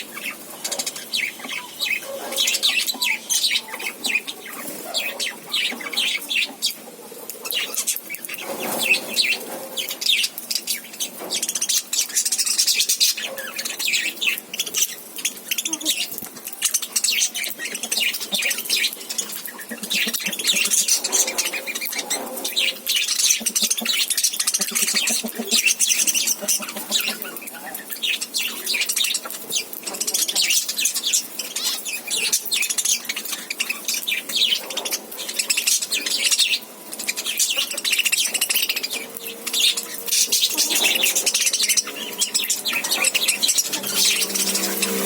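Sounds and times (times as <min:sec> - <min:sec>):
parrots chirping: 0:00.0 - 0:06.8, 0:07.4 - 0:45.0.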